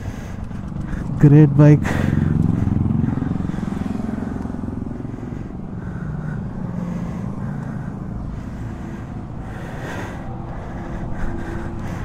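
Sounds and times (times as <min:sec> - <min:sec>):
motorcycle engine idling: 0:00.0 - 0:12.0
road traffic passing: 0:00.0 - 0:12.0.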